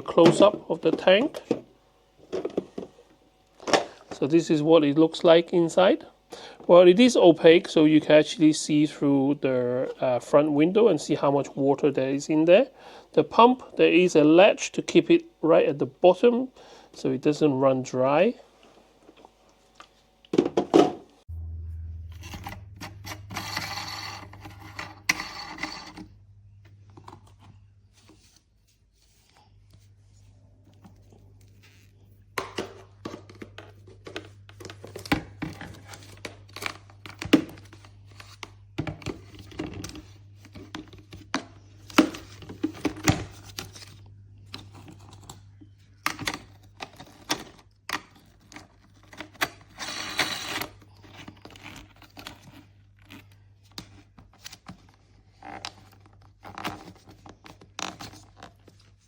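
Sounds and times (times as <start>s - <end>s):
water pump mains hum: 0.0s - 57.9s.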